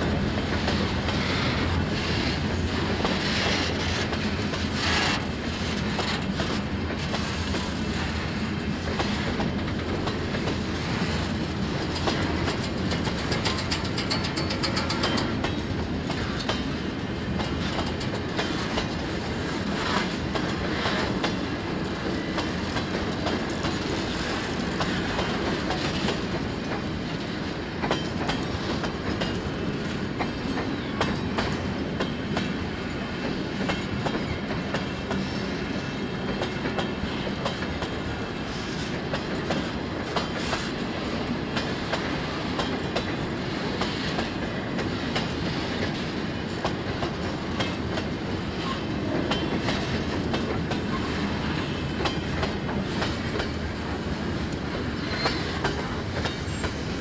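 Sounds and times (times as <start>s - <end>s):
train rumble: 0.0s - 57.0s
train wheels clacking over rail joints: 0.0s - 57.0s.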